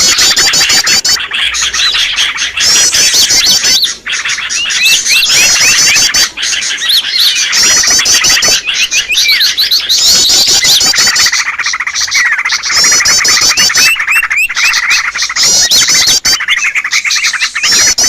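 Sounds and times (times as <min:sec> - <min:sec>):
rapid high bird trill: 0:00.0 - 0:18.0
songbirds chirping and whistling: 0:00.0 - 0:18.0.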